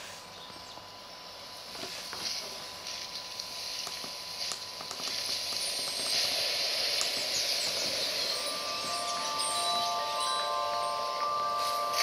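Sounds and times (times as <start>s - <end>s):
hiss: 0.0s - 0.4s, 1.3s - 12.0s.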